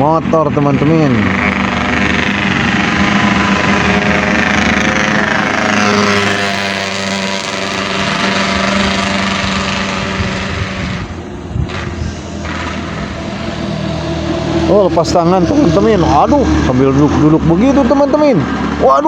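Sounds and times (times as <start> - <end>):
small motorcycle engine passing: 0.3 - 19.0.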